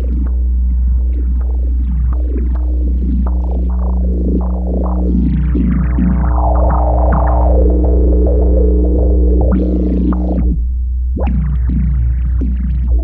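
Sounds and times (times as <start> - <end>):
low synth drone: 0.0 - 13.0.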